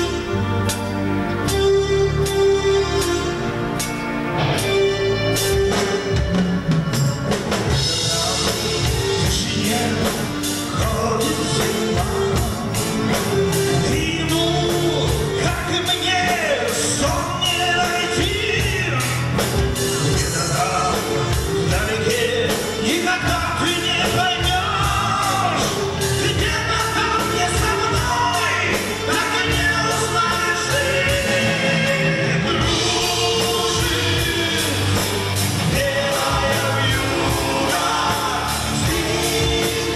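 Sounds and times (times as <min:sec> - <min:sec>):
drum kit beat: 0:00.0 - 0:39.9
guitars: 0:00.0 - 0:39.9.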